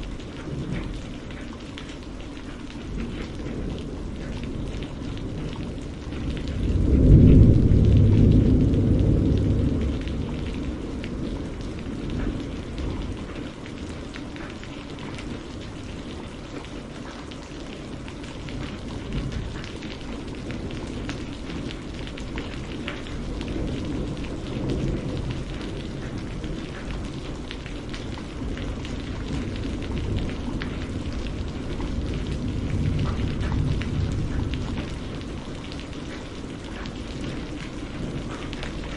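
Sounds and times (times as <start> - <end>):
steady rain: 0.0 - 38.9
thunder rumbling: 0.0 - 38.9.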